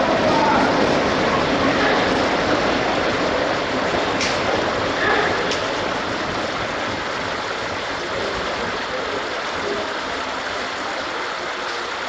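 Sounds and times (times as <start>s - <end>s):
diesel locomotive engine: 0.0s - 12.0s
train wheels rumbling on rails: 0.0s - 12.0s.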